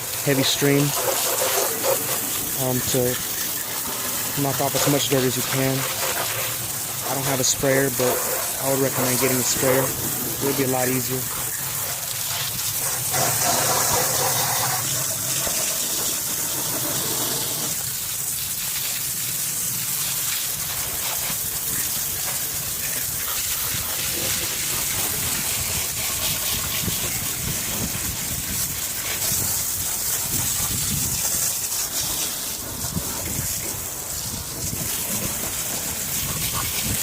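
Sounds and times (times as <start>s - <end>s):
hose water splashing: 0.0s - 37.0s.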